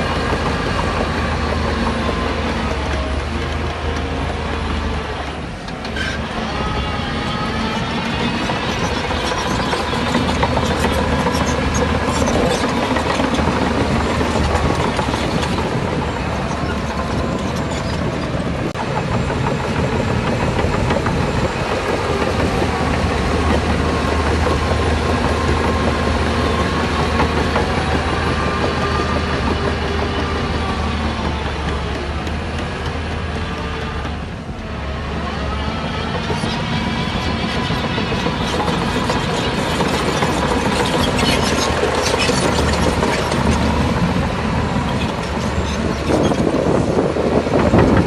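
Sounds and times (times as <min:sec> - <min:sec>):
diesel machinery engine drone: 0:00.0 - 0:48.0.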